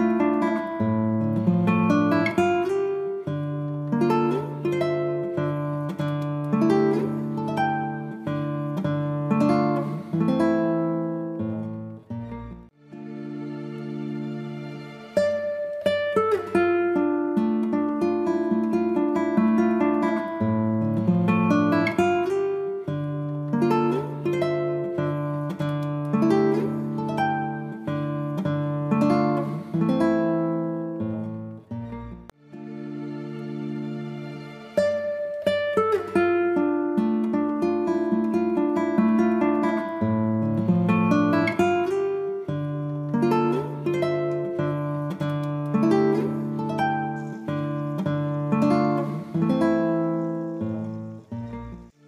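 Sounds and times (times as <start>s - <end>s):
acoustic guitar melody: 0.0s - 52.0s.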